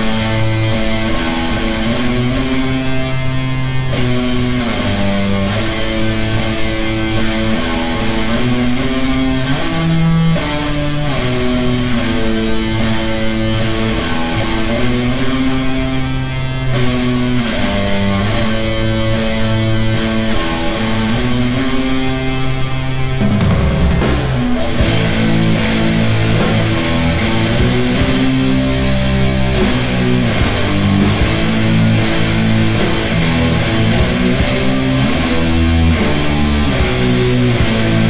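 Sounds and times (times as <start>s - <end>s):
doom metal distorted guitars: 0.0s - 38.0s.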